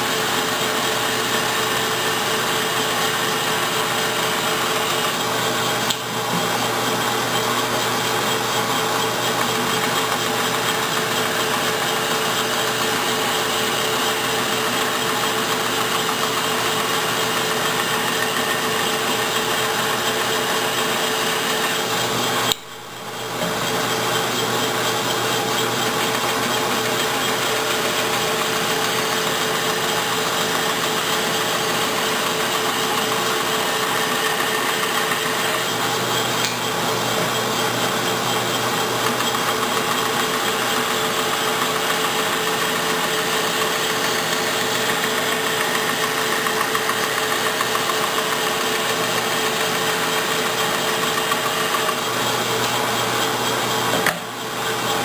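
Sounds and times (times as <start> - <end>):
bandsaw cutting wood: 0.0 - 55.0.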